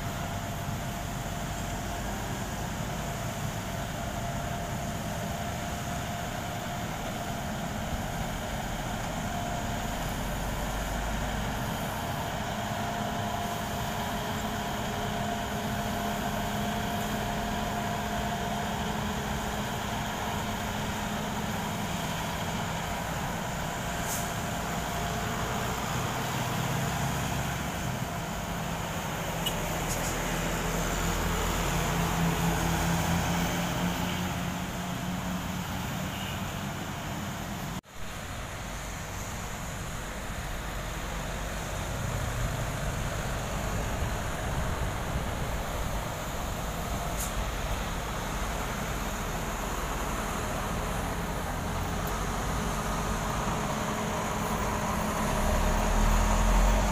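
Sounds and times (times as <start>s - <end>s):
passing road traffic: 0.0s - 56.9s
road roller diesel engine: 0.0s - 56.9s.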